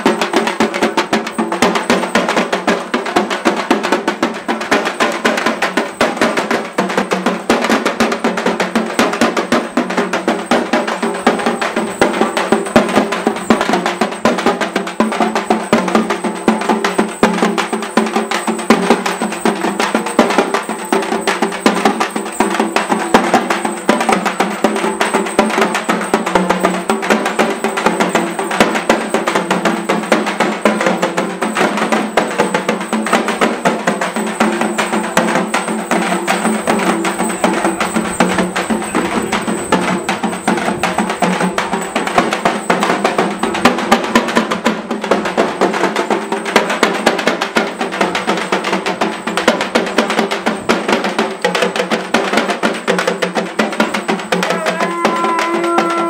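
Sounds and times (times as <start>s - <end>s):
fast continuous drumming: 0.0s - 56.0s.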